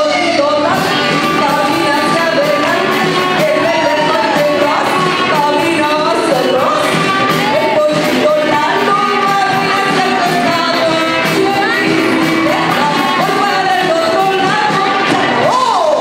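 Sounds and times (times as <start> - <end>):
drums: 0.0 - 16.0
electric guitar: 0.0 - 16.0
women singing: 0.0 - 16.0.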